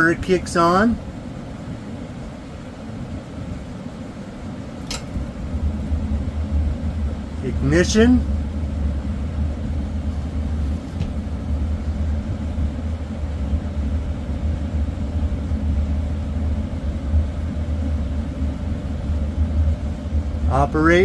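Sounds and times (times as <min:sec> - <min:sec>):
furnace blower and burner rumble: 0:00.0 - 0:21.0.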